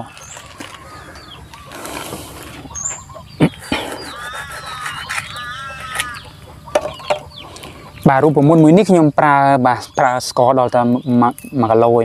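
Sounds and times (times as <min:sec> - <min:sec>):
chickens calling: 0:00.0 - 0:12.0.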